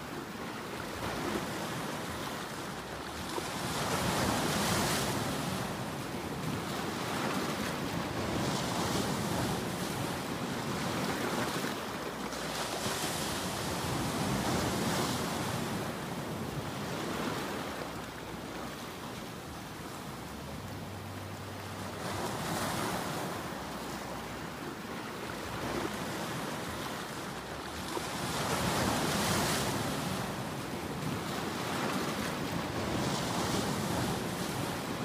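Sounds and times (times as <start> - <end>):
ocean surf breaking: 0.0 - 35.0.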